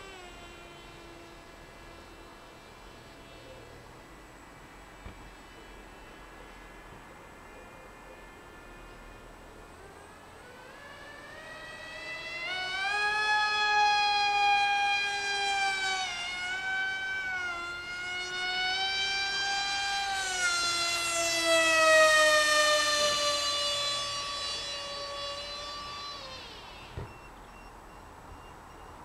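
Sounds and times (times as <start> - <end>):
electric motor and propeller whining: 0.0 - 7.0, 9.0 - 27.8.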